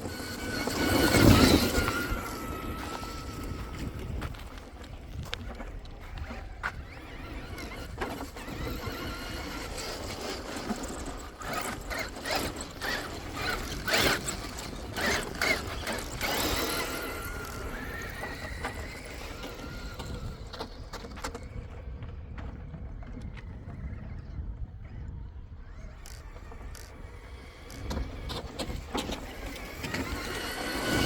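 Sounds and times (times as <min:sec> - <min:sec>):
rc car motor whining: 0:00.0 - 0:31.0.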